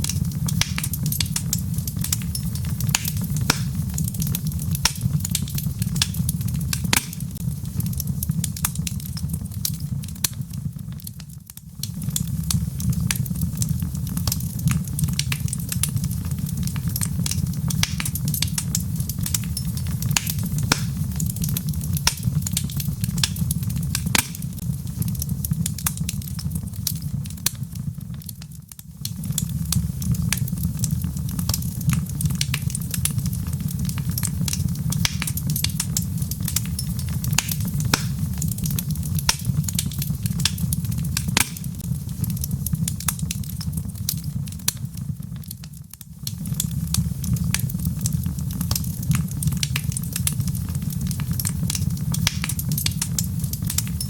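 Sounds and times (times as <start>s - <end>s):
fire low rumble: 0.0s - 54.0s
log fire crackling and popping: 0.0s - 54.0s.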